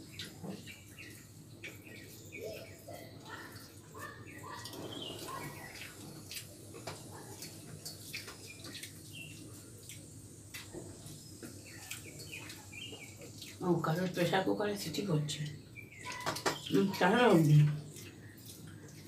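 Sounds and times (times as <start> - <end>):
chewing: 0.0 - 14.2, 15.8 - 19.0.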